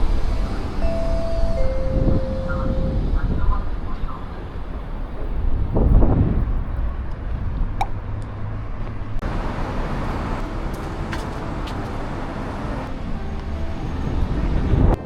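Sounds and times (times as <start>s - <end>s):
passing cars rumbling: 0.0s - 15.0s.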